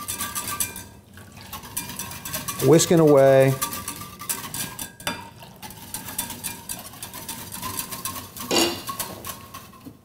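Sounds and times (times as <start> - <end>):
whisk clicking against saucepan: 0.0 - 10.0.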